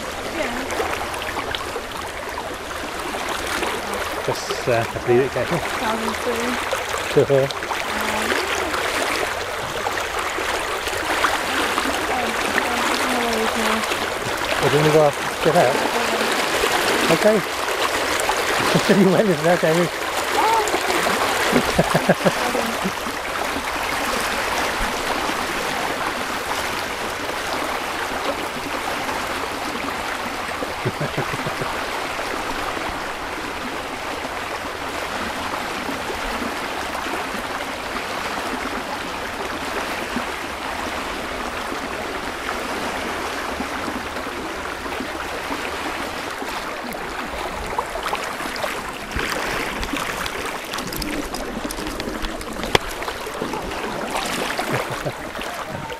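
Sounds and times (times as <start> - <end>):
water rushing along a street: 0.0 - 55.9.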